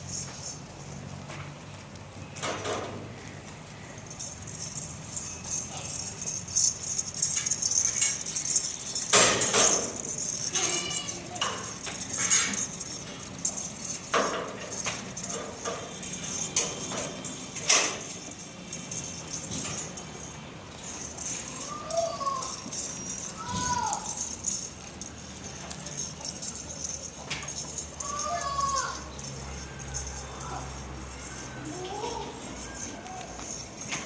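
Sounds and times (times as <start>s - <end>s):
hooves knocking and clattering: 0.0s - 34.0s.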